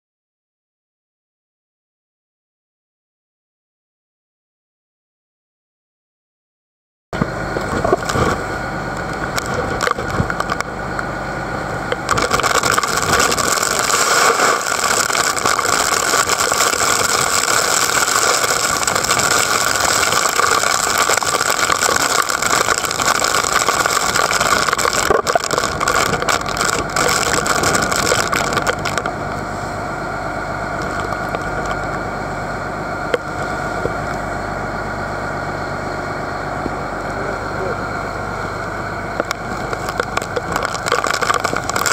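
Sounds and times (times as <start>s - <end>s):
boat engine running: 7.2s - 41.9s.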